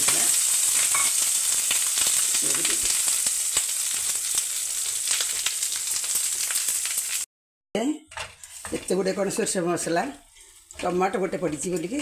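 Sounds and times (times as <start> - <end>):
paste sizzling and popping in oil: 0.0 - 7.3, 8.2 - 12.0.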